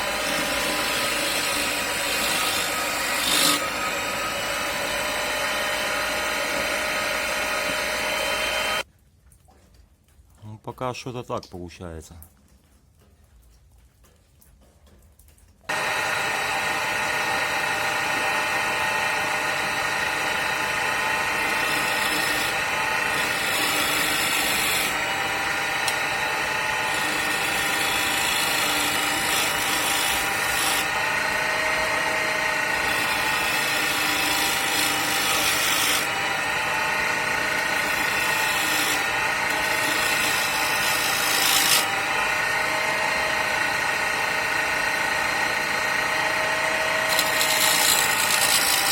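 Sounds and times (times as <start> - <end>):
chisel scraping spinning wood: 0.0 - 8.8, 15.7 - 48.9
lathe motor whine: 0.0 - 8.8, 15.7 - 48.9.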